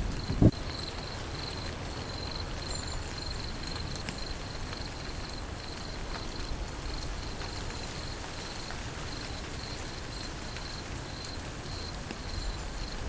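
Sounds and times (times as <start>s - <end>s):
raindrop ticks: 0.0s - 13.0s
steady rain falling: 0.0s - 13.0s.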